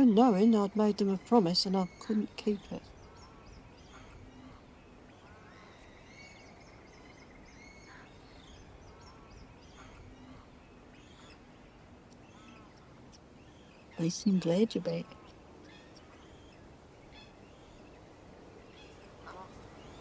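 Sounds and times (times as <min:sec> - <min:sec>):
bird trill: 0:00.0 - 0:20.0
birds chirping: 0:00.0 - 0:20.0.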